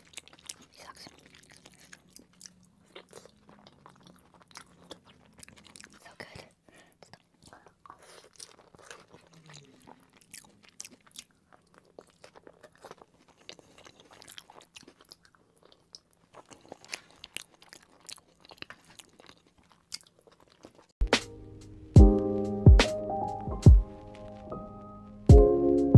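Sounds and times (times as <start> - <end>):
close chewing with mouth clicks: 0.0 - 21.1.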